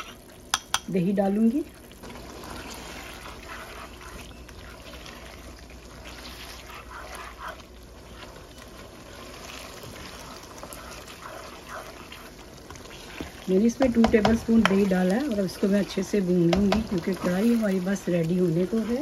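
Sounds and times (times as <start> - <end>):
spatula scraping a pan: 0.0 - 0.2, 2.0 - 19.0
low sizzle: 0.0 - 19.0.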